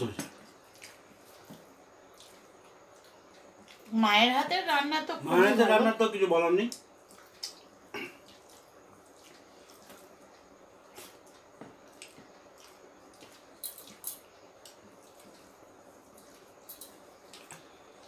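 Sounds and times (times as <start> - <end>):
wet eating sounds: 0.0 - 4.5, 6.7 - 18.0.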